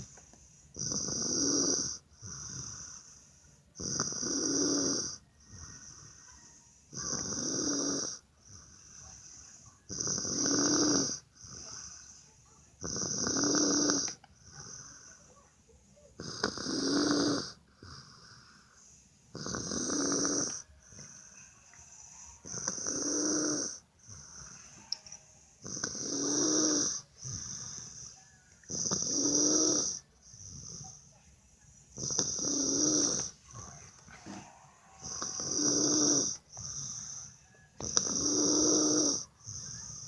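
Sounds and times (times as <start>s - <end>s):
quiet breathing: 0.0s - 16.2s, 17.5s - 40.0s
person snoring: 0.7s - 9.2s, 9.9s - 12.1s, 12.8s - 15.1s, 16.2s - 24.9s, 25.5s - 31.0s, 32.0s - 40.0s.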